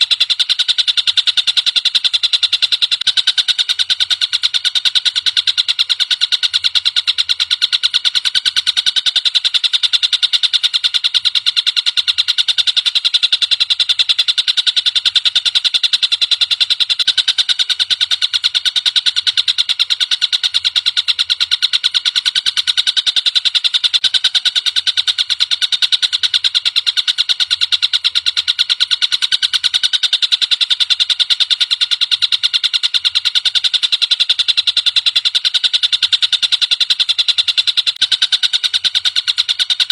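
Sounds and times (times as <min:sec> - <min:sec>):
kingfisher rapid trill: 0:00.0 - 0:39.9.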